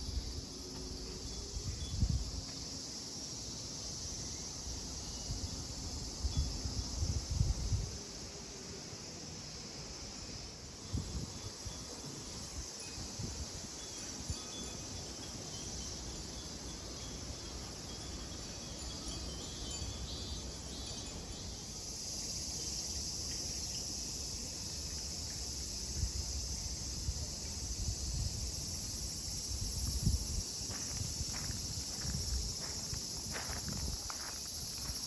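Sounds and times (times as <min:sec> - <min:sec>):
cicadas singing: 0:00.0 - 0:35.0.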